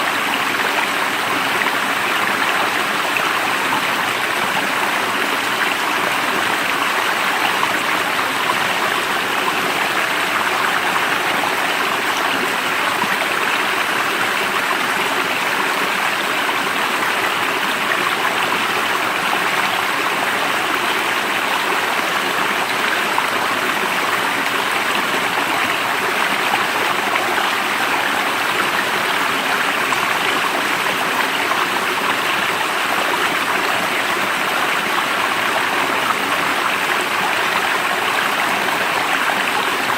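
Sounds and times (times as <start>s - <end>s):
running water stream: 0.0s - 39.9s.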